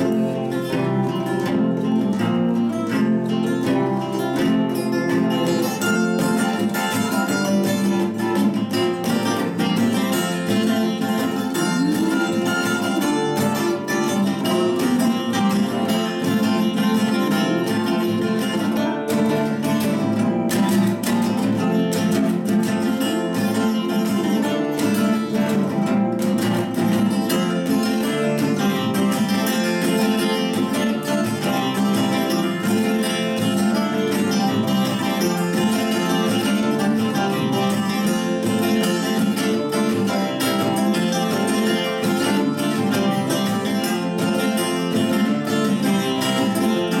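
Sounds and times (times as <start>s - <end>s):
nylon-string guitar: 0.0s - 47.0s
steel-string acoustic guitar: 0.0s - 47.0s.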